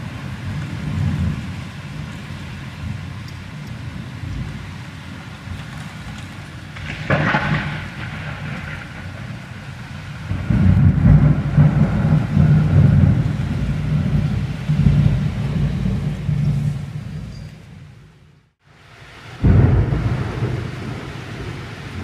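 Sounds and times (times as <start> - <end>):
thunder crackle: 0.0 - 17.3, 19.4 - 22.0
low thunder rumble: 0.0 - 18.3, 19.2 - 22.0
steady rain: 0.0 - 22.0.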